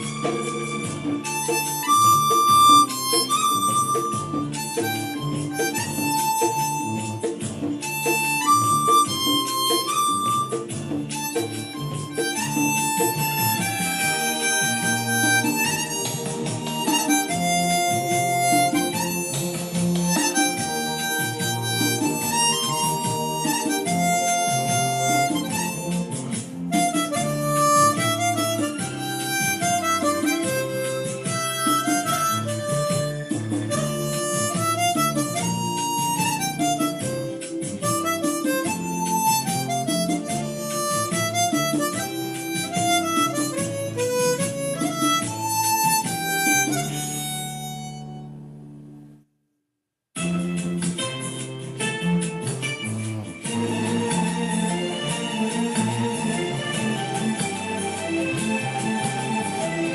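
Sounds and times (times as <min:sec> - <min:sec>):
harmonica melody: 0:00.0 - 0:48.6, 0:50.2 - 0:59.9
low accompaniment: 0:00.0 - 0:49.2.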